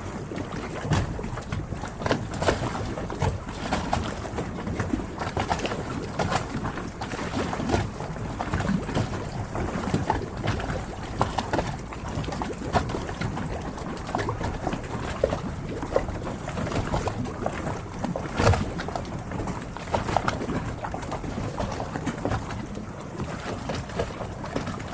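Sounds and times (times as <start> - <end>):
water lapping against boats: 0.0 - 24.9.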